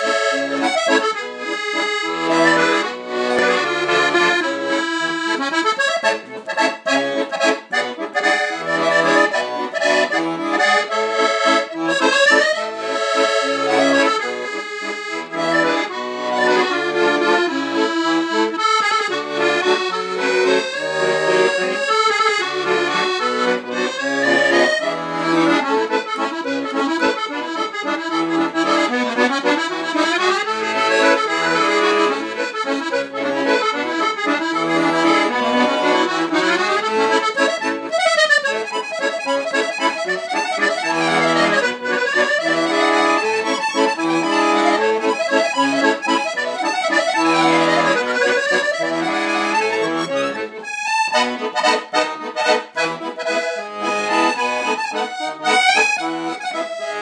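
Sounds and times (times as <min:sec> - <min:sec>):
accordion bass notes: 0:00.0 - 0:57.0
accordion melody: 0:00.0 - 0:57.0.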